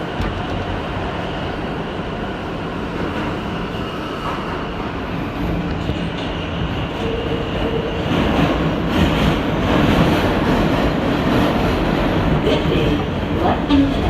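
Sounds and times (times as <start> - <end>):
subway train rumble and rattle: 0.0 - 14.0.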